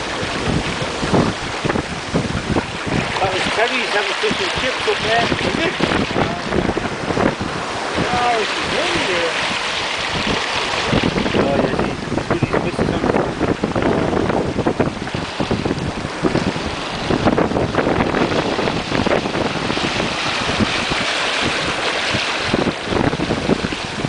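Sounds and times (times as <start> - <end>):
boat wake rushing along hull: 0.0 - 24.0
wind buffeting microphone: 0.0 - 24.0.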